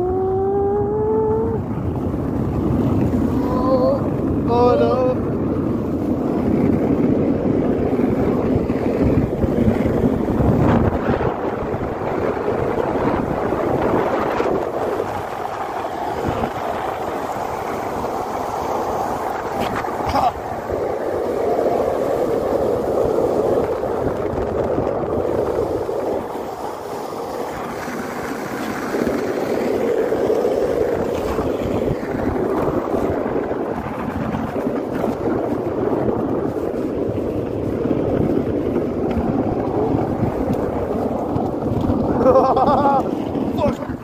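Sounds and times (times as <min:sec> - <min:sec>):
luge wheels rolling on asphalt: 0:00.0 - 0:44.0
wind buffeting microphone: 0:00.0 - 0:44.0.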